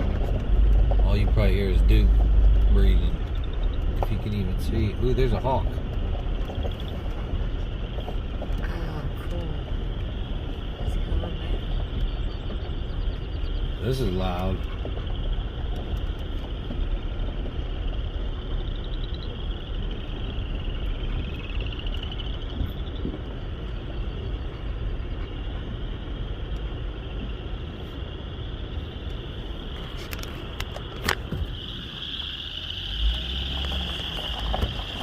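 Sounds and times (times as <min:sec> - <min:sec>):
car rumble: 0:00.0 - 0:35.0
frogs calling: 0:00.0 - 0:35.0.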